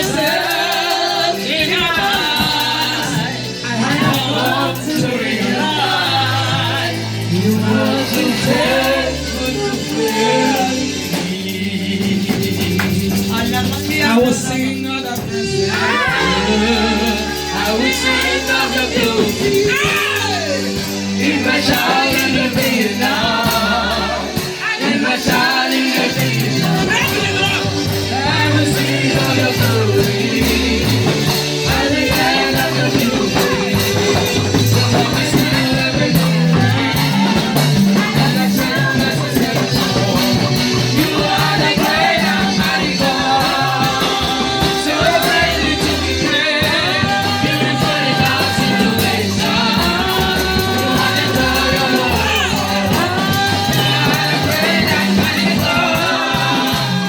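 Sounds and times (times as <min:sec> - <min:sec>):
gospel band playing: 0:00.0 - 0:57.0
voices singing: 0:00.0 - 0:57.0.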